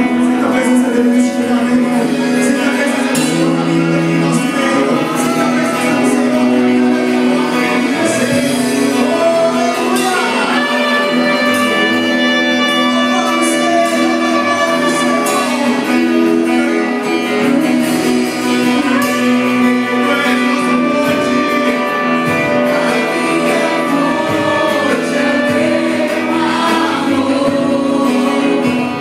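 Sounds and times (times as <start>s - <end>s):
worship band playing slow song: 0.0s - 29.0s.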